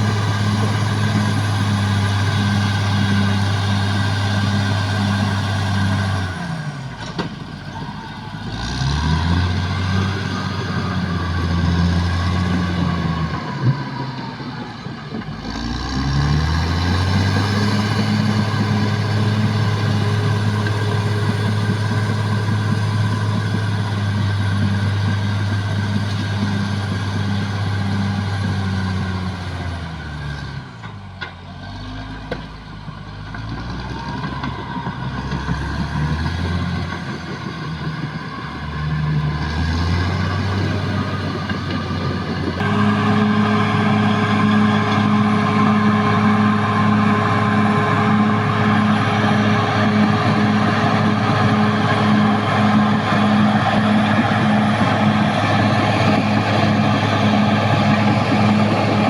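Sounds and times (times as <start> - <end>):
bulldozer diesel engine revving: 0.0 - 59.0.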